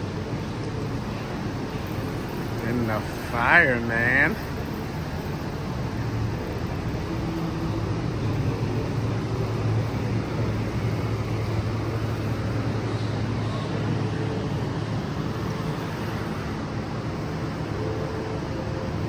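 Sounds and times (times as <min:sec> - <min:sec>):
constant rushing noise: 0:00.0 - 0:19.0
steady low hum: 0:00.0 - 0:19.0.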